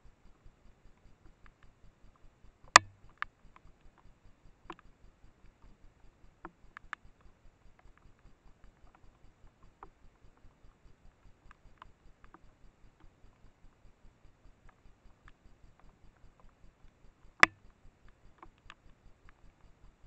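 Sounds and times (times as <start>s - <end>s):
faint fast ticking: 0.0s - 20.0s.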